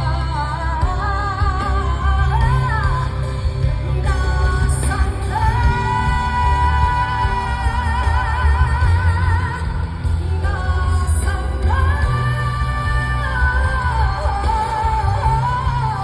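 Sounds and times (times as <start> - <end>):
live pop band music: 0.0 - 16.0
person singing with vibrato: 0.0 - 16.0.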